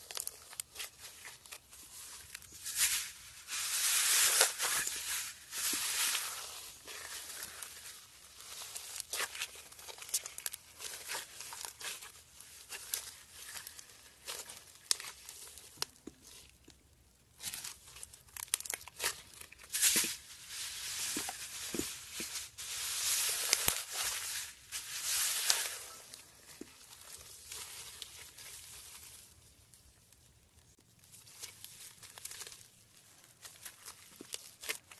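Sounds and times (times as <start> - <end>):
foam beads crackling and popping: 0.0 - 34.9.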